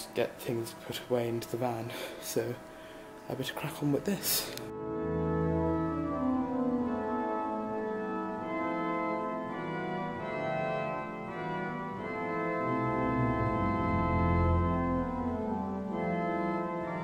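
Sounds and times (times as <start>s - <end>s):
organ playing slow chords: 0.0s - 17.0s.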